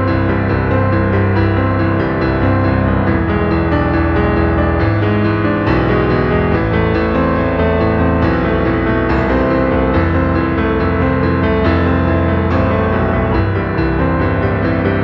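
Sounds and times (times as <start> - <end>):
piano-led instrumental music: 0.0 - 15.0.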